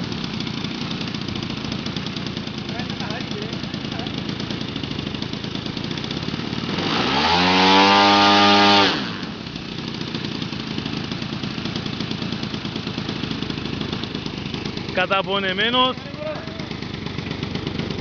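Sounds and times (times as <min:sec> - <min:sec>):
model airplane engine revving: 0:00.0 - 0:18.0.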